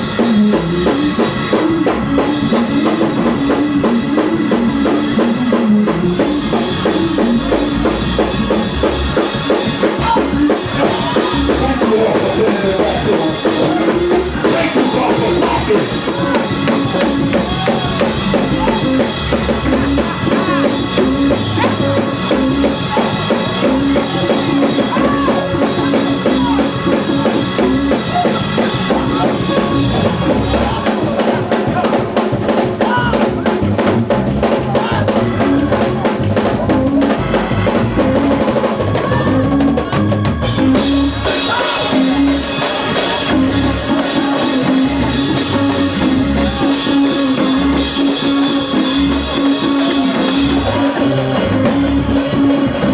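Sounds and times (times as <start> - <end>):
bass drum: 0.0 - 52.9
drum kit beat: 0.0 - 52.9
gospel music: 0.0 - 52.9.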